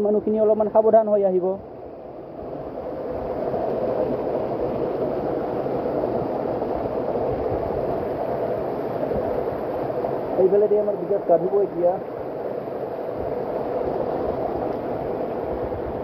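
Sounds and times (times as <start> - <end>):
small waterfall rushing and splashing: 2.4 - 16.0.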